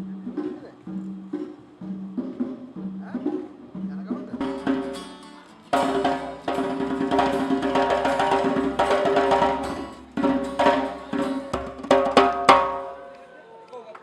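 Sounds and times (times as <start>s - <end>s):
acoustic band playing: 0.0s - 13.4s.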